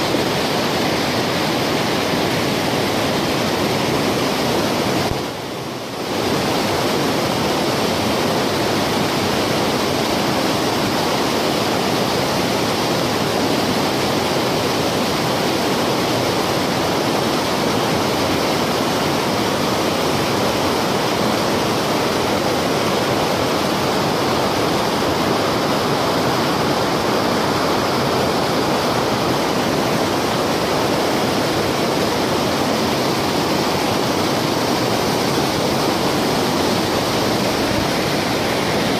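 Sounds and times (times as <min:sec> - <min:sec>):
river water rushing over boulders: 0:00.0 - 0:38.9.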